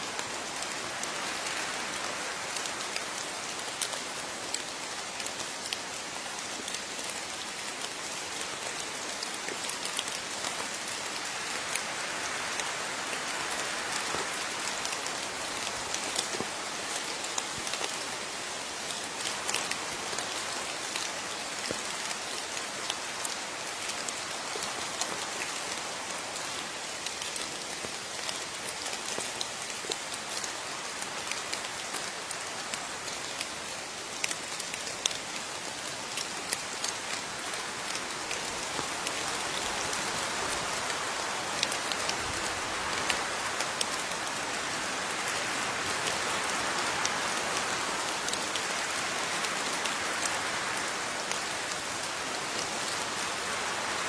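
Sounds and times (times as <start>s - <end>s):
rain falling: 0.0s - 54.0s
raindrops ticking on a surface: 0.0s - 54.0s.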